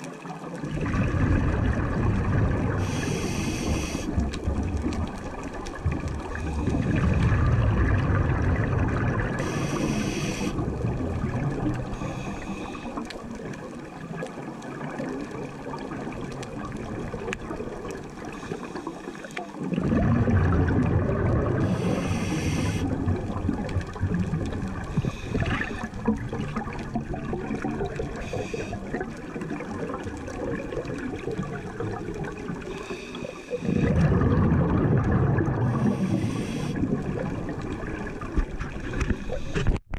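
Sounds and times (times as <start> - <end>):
steady underwater rush: 0.0 - 39.9
diver exhaling bubbles: 0.6 - 13.4, 14.9 - 39.8.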